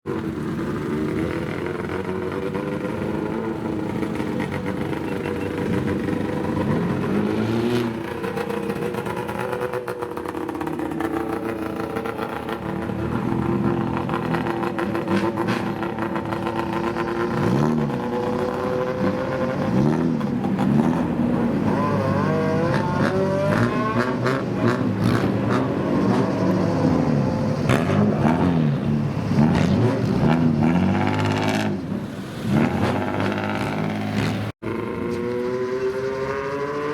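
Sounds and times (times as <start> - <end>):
car engines revving: 0.0 - 36.9.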